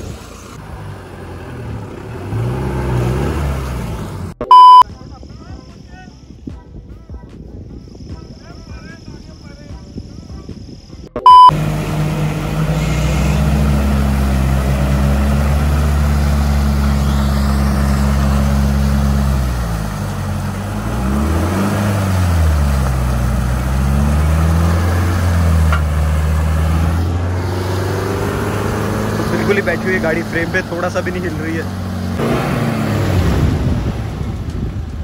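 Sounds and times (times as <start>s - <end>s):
off-road vehicle engine revving: 0.0s - 4.8s, 11.3s - 35.0s.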